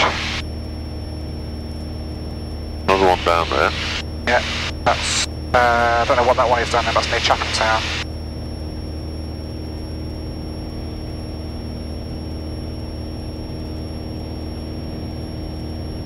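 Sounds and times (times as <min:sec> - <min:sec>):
aircraft engine and propeller drone: 0:00.0 - 0:16.0
faint high-pitched whine: 0:00.0 - 0:16.0.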